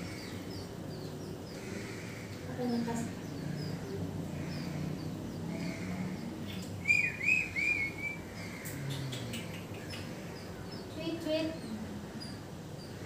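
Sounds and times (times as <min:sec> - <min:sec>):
nestlings cheeping: 0:00.0 - 0:13.0.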